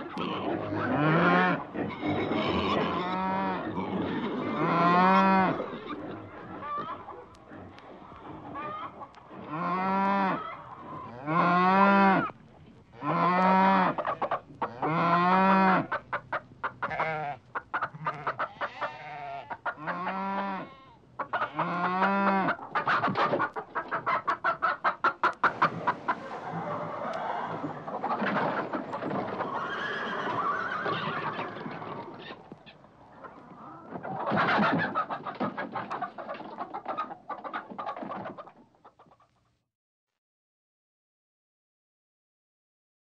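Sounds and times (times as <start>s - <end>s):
farm animals calling: 0.0s - 39.3s.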